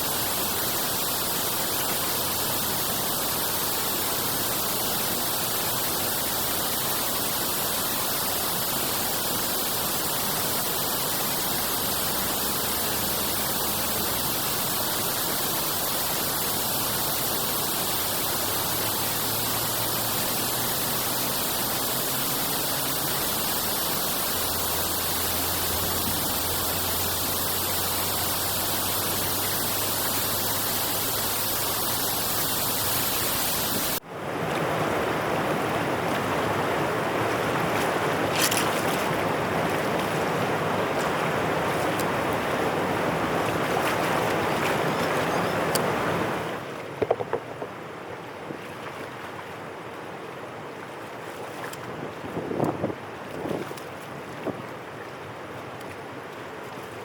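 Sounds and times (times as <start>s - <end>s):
drainage water flowing: 0.0s - 47.8s.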